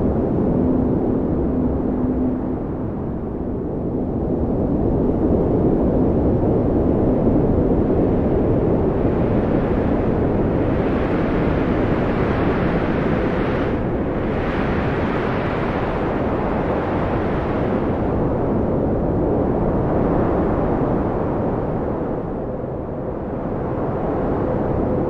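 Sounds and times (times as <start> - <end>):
strong wind blowing: 0.0 - 25.0.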